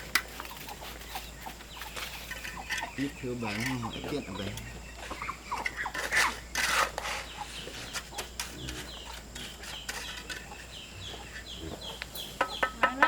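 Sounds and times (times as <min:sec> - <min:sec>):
chickens squawking: 0:00.0 - 0:13.0.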